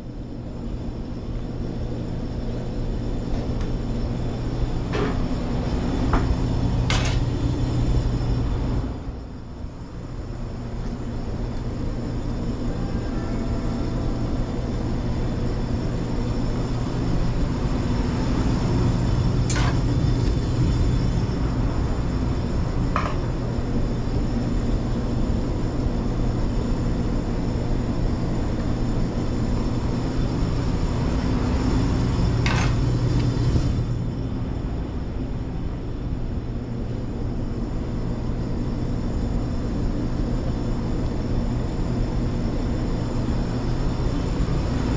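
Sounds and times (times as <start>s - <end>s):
kitchen machinery hum: 0.0s - 44.9s.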